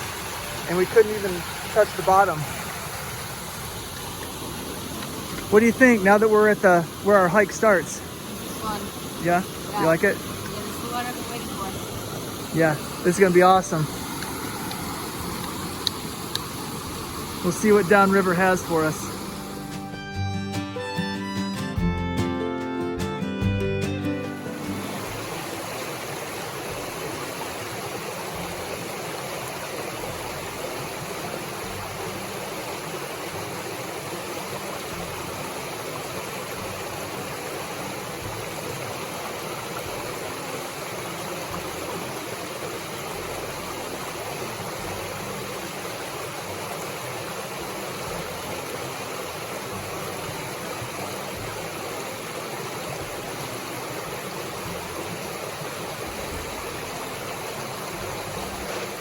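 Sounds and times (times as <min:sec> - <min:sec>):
river water flowing over rocks: 0:00.0 - 0:20.1, 0:24.1 - 0:59.0.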